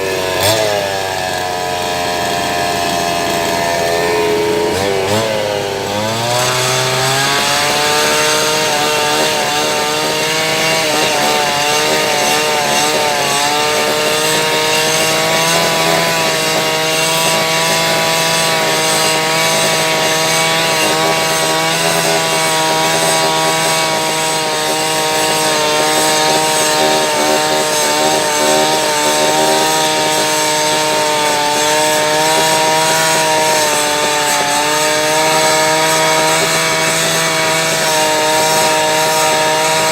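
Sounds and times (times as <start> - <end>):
engine running at high speed: 0.0 - 37.9.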